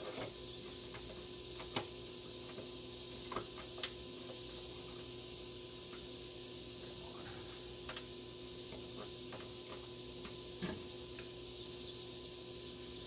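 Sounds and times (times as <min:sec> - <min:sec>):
steady hiss and hum: 0:00.0 - 0:13.0.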